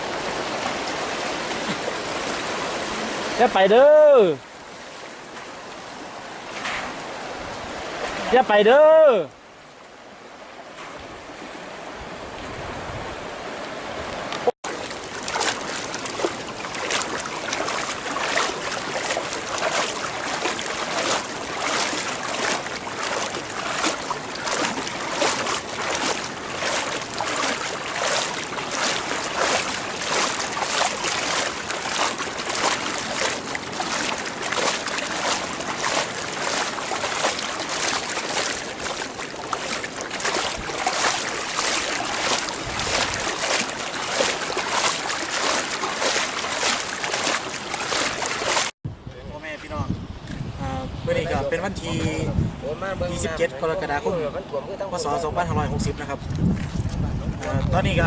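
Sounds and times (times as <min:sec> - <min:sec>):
floodwater rushing and splashing: 0:00.0 - 0:48.8.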